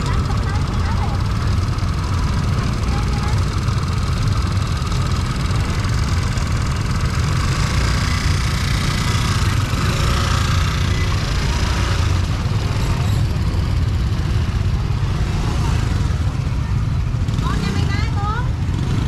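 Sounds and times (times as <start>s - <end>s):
faint voices: 0.0s - 18.7s
motorbike and vehicle engines rumbling: 0.0s - 19.0s.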